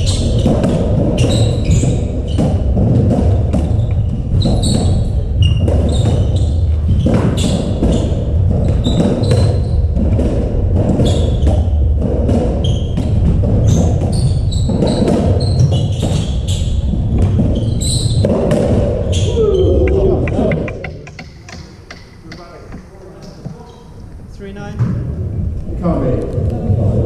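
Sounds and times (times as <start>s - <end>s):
rackets hitting ball: 0.0s - 24.2s
shoes squeaking on wooden floor: 0.0s - 24.9s.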